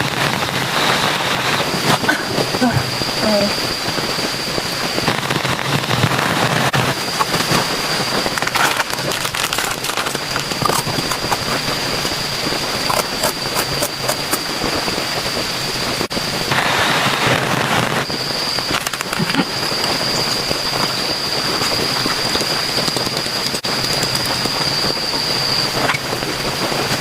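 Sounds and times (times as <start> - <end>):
campfire crackling and popping: 0.0 - 27.0
heavy rain falling: 0.0 - 27.0.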